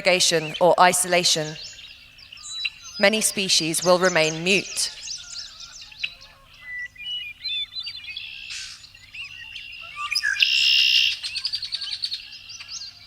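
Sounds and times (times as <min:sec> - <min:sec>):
loud rapid bird trill: 0:00.0 - 0:13.0
songbirds singing: 0:00.0 - 0:13.0.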